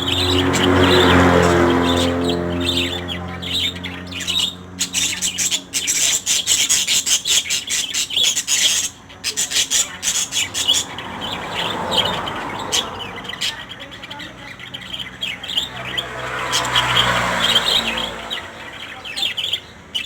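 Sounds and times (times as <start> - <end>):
parrots squawking and chattering: 0.0 - 20.0.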